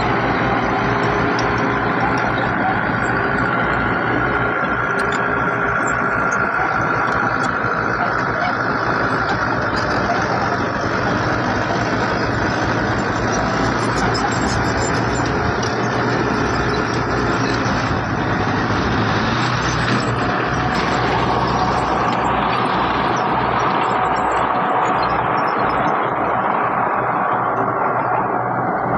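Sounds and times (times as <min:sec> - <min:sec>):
diesel construction machinery running: 0:00.0 - 0:28.9.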